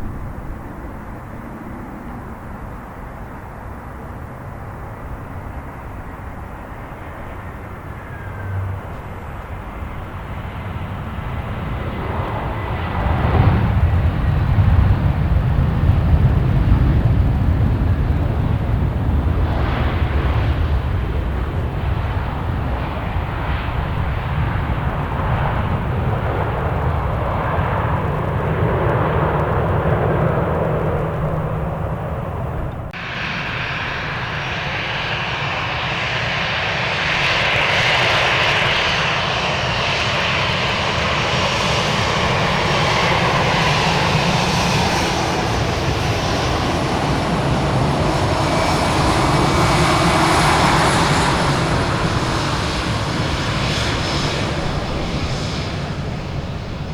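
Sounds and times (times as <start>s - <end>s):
aircraft engine whine and rush: 0.0s - 56.9s
airliner engines rumbling: 0.0s - 56.9s.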